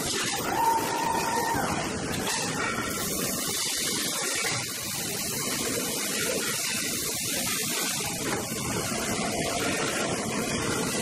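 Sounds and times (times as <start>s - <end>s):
factory machinery hiss and hum: 0.0s - 11.0s.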